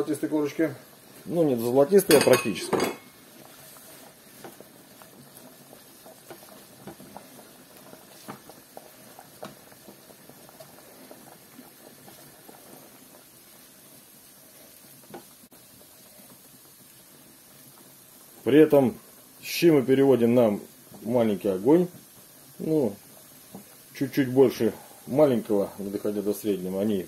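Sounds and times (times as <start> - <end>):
soup boiling with soft pops: 0.0 - 27.0.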